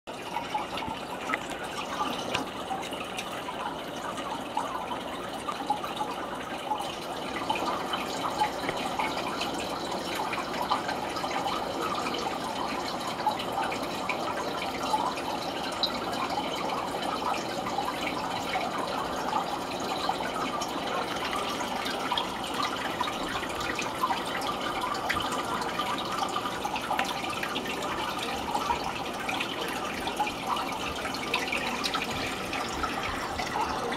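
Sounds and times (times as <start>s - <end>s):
water bubbling and trickling: 0.1s - 33.9s.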